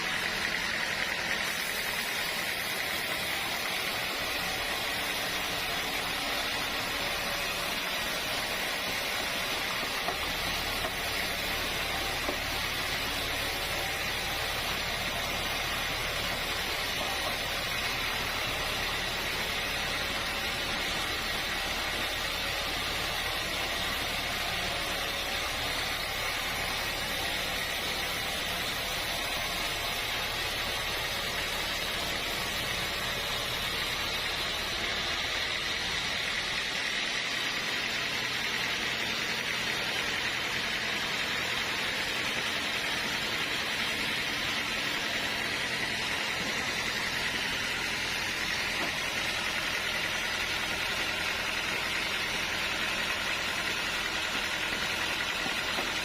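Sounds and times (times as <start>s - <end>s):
sawmill machinery hiss and drone: 0.0s - 56.0s.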